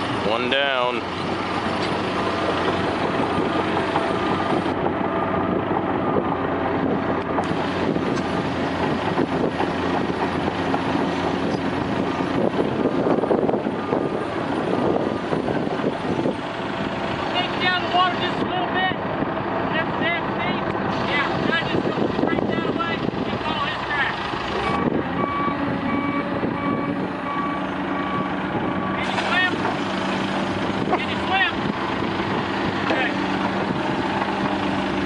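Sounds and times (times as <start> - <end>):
heavy diesel machinery running: 0.0 - 35.0.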